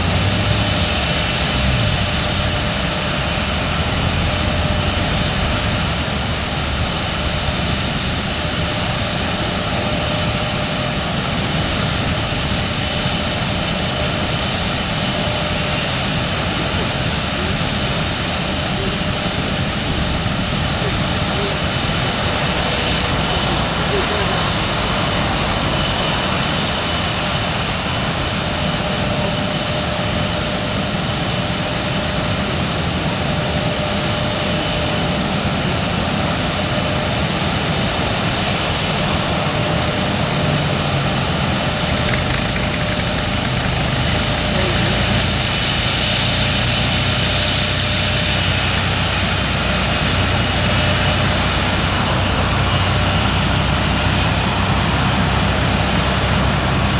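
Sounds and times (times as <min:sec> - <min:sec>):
jet engines idling: 0:00.0 - 0:56.9.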